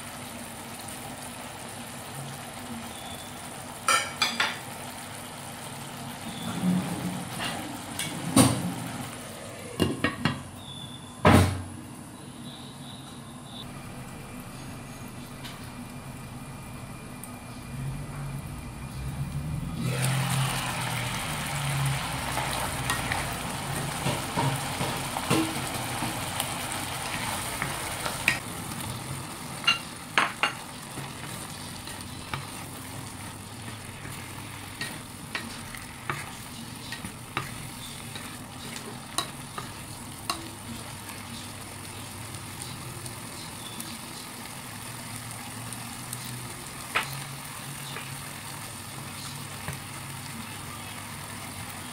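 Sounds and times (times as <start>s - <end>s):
food sizzling in a pan: 0.0s - 51.9s.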